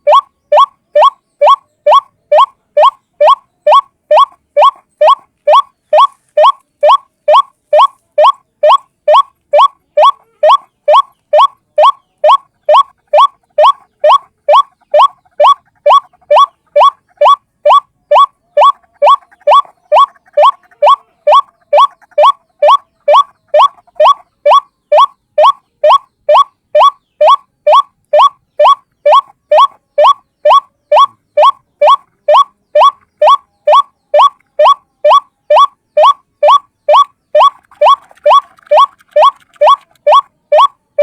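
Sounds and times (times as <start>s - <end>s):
waterhen calling: 0.0s - 41.0s.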